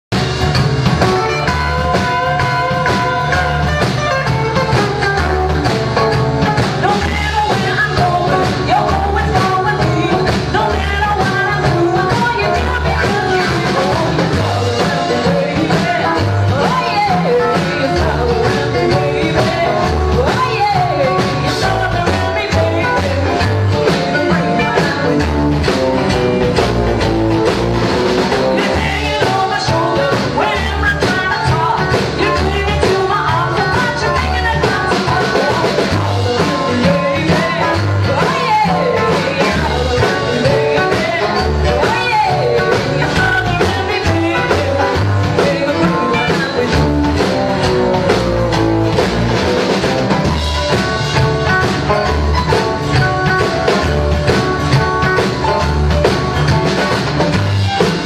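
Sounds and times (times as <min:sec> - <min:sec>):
drums: 0:00.0 - 0:58.0
electric guitar: 0:00.1 - 0:58.0
piano: 0:00.1 - 0:58.0
upright double bass: 0:00.1 - 0:58.0
woman singing: 0:01.0 - 0:26.8, 0:28.1 - 0:58.0.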